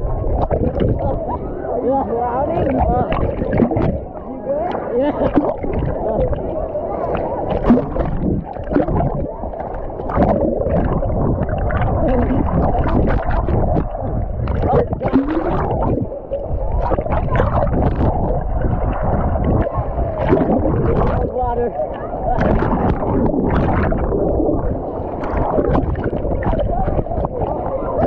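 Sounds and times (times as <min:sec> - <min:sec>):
indistinct voices: 0:00.0 - 0:28.0
muffled water sloshing: 0:00.0 - 0:28.0.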